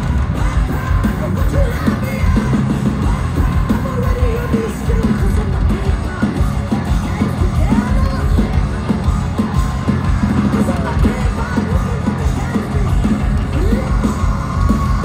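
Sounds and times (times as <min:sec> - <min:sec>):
distorted guitars: 0:00.0 - 0:15.0
heavy metal band playing live: 0:00.0 - 0:15.0
steady drum beat: 0:00.0 - 0:15.0.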